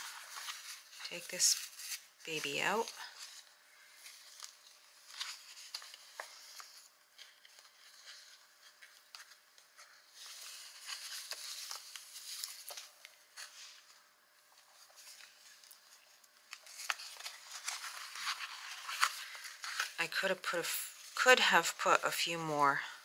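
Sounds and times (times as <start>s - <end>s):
paper rustling: 0.0s - 22.1s.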